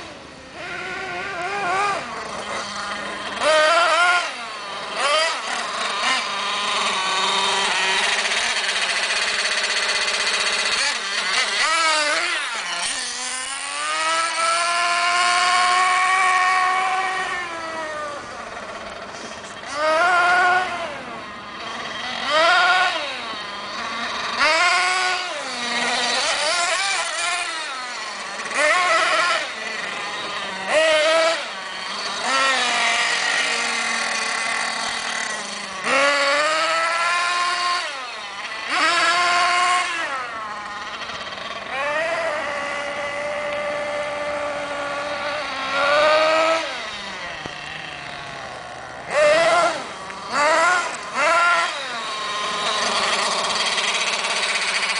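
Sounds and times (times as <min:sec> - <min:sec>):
nitro engine revving: 0:00.0 - 0:54.9.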